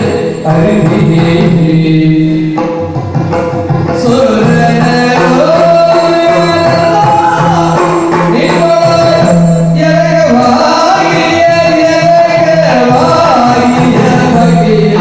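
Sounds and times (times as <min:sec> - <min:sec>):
man singing ornamented melody: 0:00.0 - 0:02.8, 0:03.9 - 0:15.0
drum accompaniment: 0:00.0 - 0:15.0.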